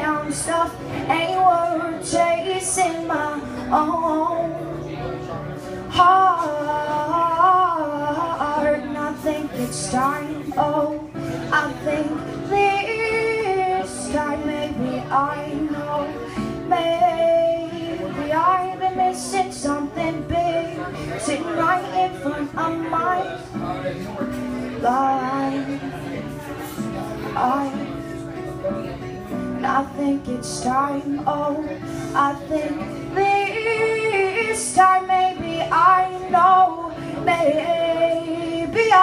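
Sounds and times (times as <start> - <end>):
woman singing: 0.0 - 23.6, 24.3 - 39.0
acoustic guitar strumming: 0.0 - 39.0.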